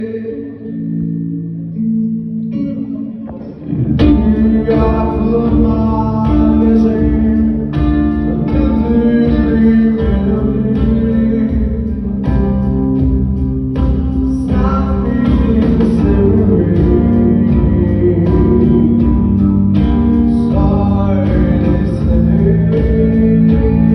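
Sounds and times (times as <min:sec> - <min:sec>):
live band music: 0:00.0 - 0:23.9.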